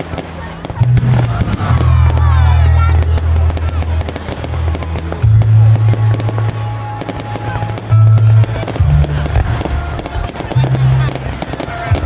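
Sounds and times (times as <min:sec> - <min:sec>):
fireworks crackling and banging: 0:00.0 - 0:12.0
loud music with heavy bass: 0:00.4 - 0:12.0.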